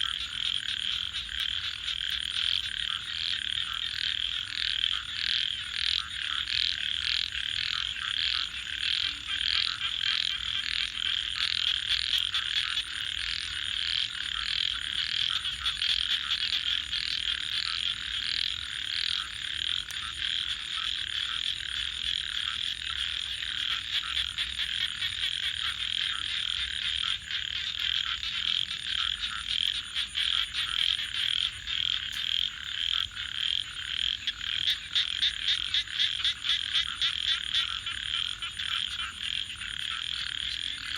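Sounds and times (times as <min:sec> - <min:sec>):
chorus of frogs calling: 0:00.0 - 0:40.9
repeating frog call: 0:00.0 - 0:40.9.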